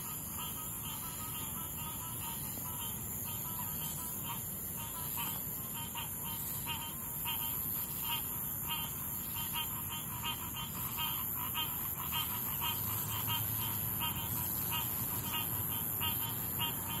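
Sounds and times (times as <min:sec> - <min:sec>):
insect drone: 0:00.0 - 0:17.0
tree frogs calling: 0:00.0 - 0:17.0.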